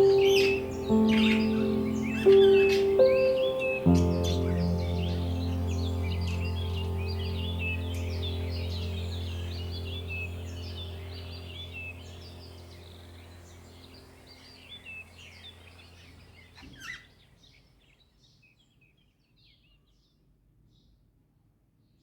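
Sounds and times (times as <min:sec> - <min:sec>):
low steady hum: 0:00.0 - 0:17.8
budgerigars chirping and warbling: 0:00.0 - 0:18.1.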